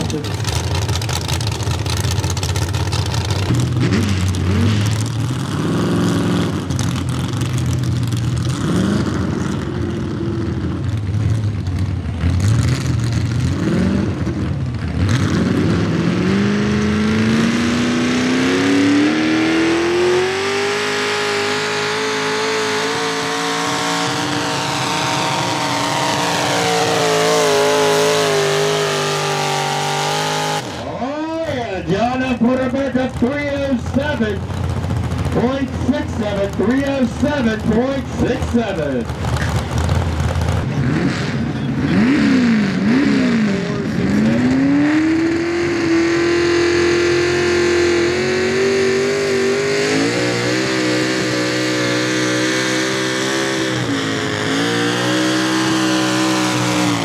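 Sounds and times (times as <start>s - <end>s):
tractor engine revving: 0.0s - 57.0s.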